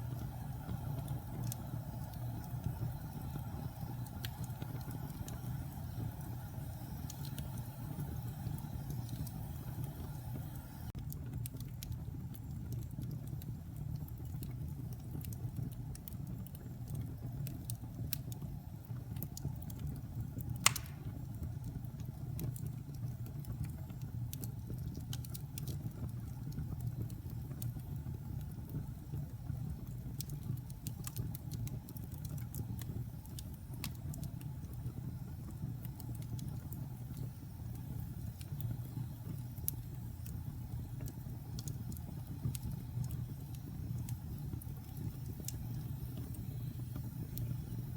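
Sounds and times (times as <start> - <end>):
fire crackling and popping: 0.0 - 47.9
flames rumbling: 0.0 - 47.9.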